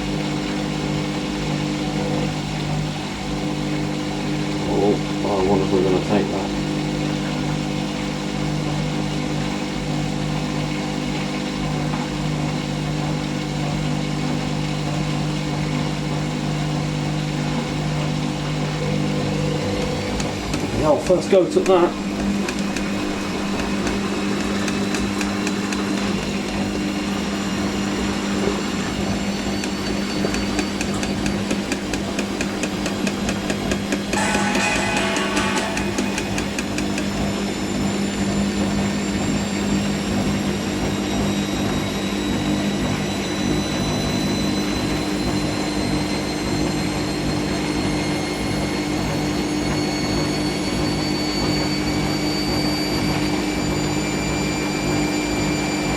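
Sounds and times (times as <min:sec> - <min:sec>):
washing machine motor whine: 0:00.0 - 0:55.9.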